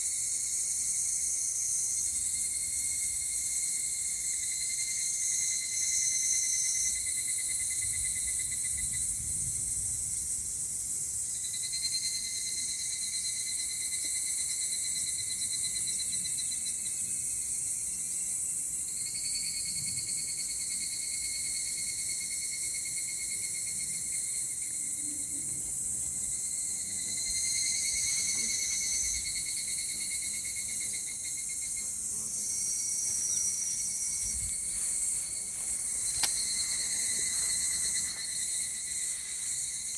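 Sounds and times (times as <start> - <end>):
buzzing cicada calls: 0.0 - 39.9
cicadas shrilling: 0.0 - 39.9.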